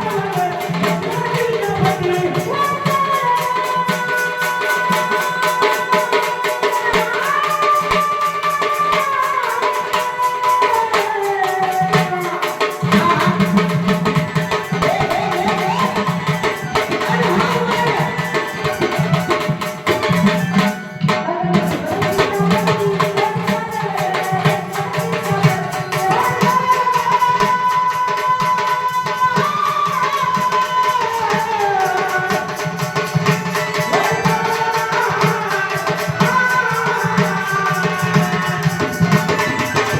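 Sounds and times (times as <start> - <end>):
drum beat: 0.0 - 39.9.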